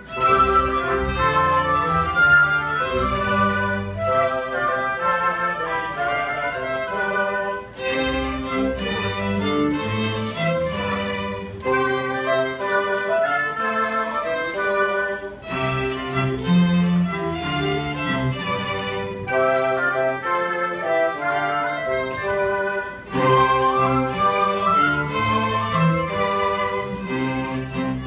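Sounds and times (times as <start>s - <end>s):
bowed strings ensemble: 0.0s - 28.0s
flute and woodwinds: 0.0s - 28.0s.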